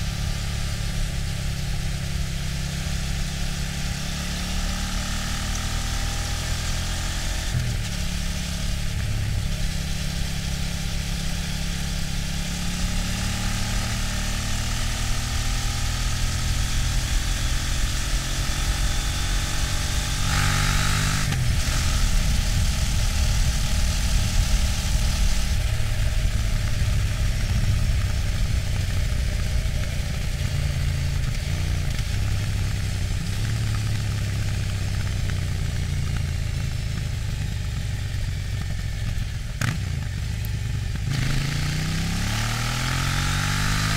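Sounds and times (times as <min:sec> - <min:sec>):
motorcycle engine while riding: 0:00.0 - 0:43.9.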